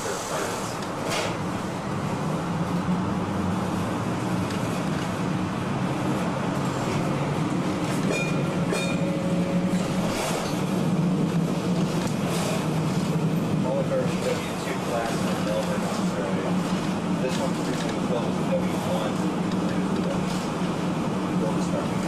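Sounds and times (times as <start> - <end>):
tram motor and wheels humming: 0.0 - 22.0.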